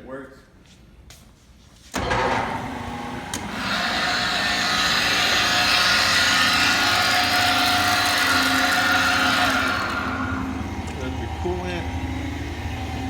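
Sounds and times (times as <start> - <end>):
lathe motor whirring: 2.0 - 13.0.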